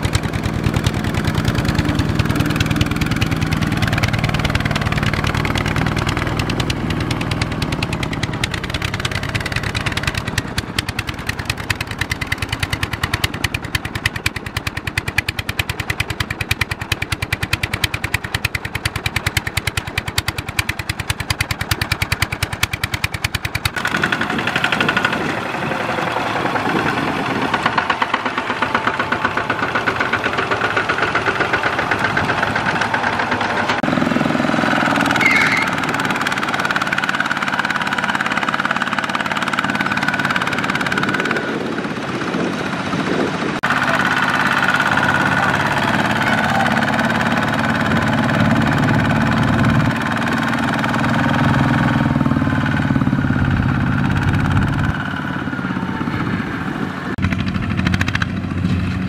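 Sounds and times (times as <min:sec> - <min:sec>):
single-cylinder diesel engine running: 0:00.0 - 0:59.0.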